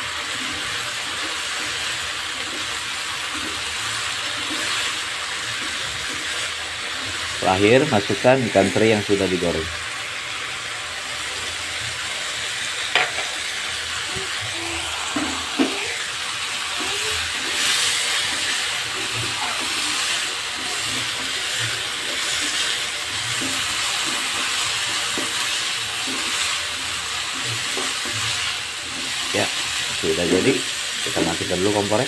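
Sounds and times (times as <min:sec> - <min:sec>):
spatula stirring and tossing: 0:00.0 - 0:08.9, 0:11.9 - 0:31.8
food sizzling in a wok: 0:00.0 - 0:32.0.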